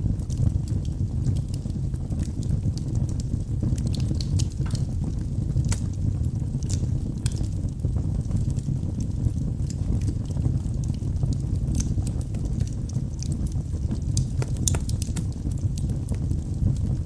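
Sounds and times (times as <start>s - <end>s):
low roar of fire flames: 0.0s - 17.0s
logs crackling and popping: 0.1s - 17.0s.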